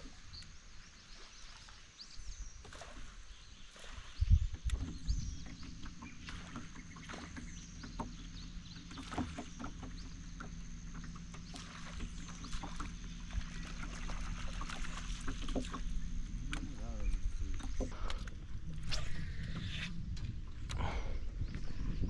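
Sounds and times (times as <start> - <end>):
boat motor humming with whine: 0.0 - 22.0.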